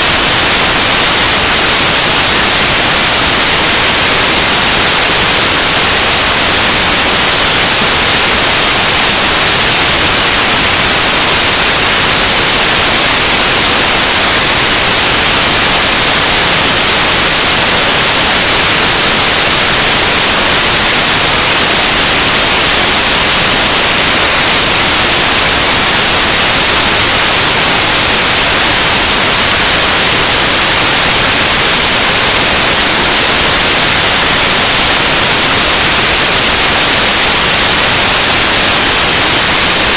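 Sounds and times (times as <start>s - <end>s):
static-like noise music: 0.0s - 39.9s.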